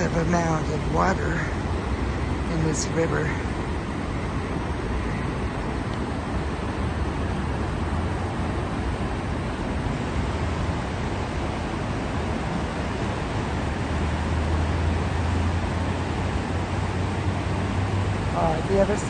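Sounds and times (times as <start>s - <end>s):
freeway traffic rumble: 0.0s - 19.0s
river rushing: 0.0s - 19.0s.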